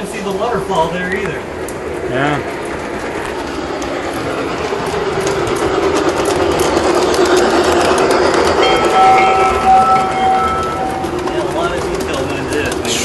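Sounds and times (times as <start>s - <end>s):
model train rumbling on track: 0.0s - 13.0s.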